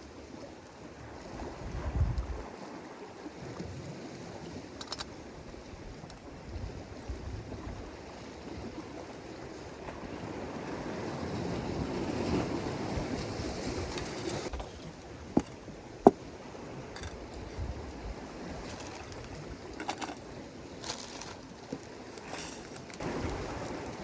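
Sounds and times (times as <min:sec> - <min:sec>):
sea waves washing on shore: 0:00.0 - 0:24.0.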